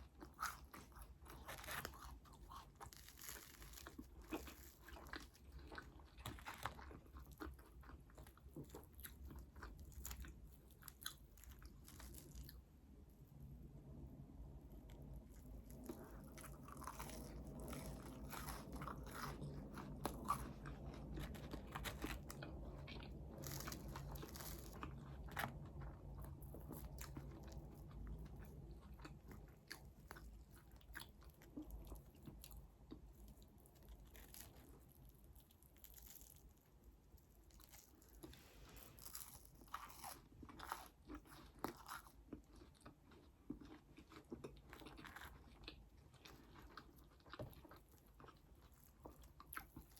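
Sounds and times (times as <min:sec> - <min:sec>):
person chewing crunchy food: 0:00.0 - 0:13.1, 0:13.8 - 0:49.9.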